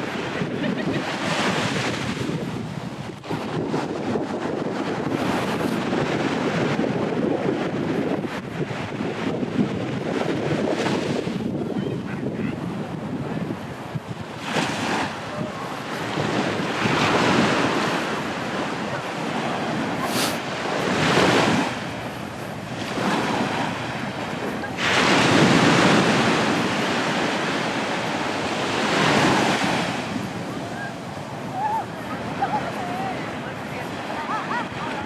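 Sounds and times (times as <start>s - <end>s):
waves breaking on beach: 0.0s - 35.0s
wind buffeting microphone: 0.0s - 35.0s.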